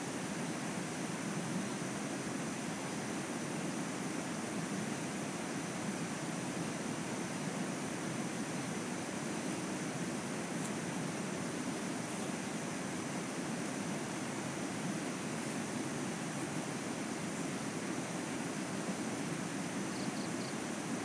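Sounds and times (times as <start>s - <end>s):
rushing outdoor noise: 0.0s - 21.0s.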